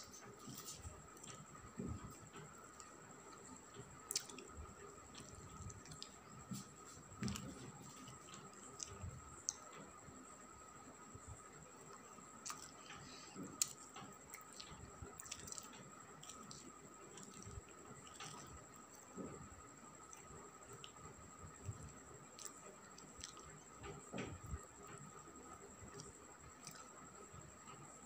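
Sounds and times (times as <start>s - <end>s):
faint high-pitched whine: 0.0s - 28.0s.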